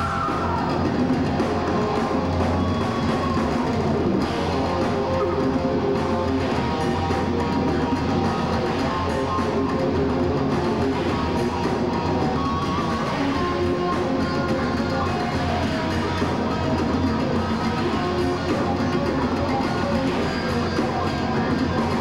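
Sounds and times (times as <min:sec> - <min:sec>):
bass guitar: 0:00.0 - 0:22.0
drum kit: 0:00.0 - 0:22.0
electric guitar: 0:00.0 - 0:22.0.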